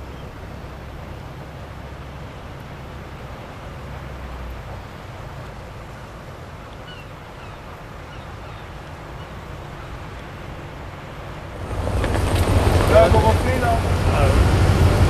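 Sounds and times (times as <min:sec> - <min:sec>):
ferry rumbling over water: 0:00.0 - 0:15.0
wind: 0:00.0 - 0:15.0.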